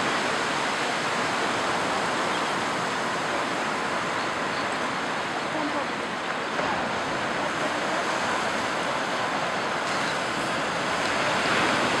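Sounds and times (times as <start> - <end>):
surf and waves: 0.0 - 12.0.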